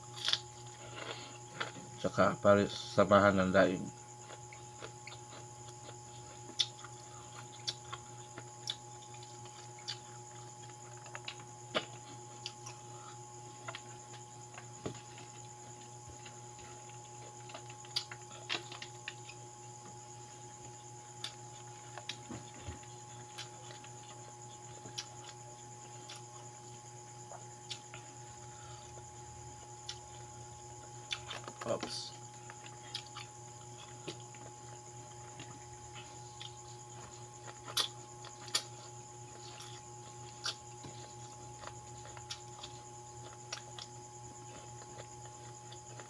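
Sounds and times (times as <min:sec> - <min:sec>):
faint steady hum: 0:00.0 - 0:46.0
chewing and lip smacks: 0:04.2 - 0:19.4, 0:20.6 - 0:29.0, 0:32.3 - 0:46.0.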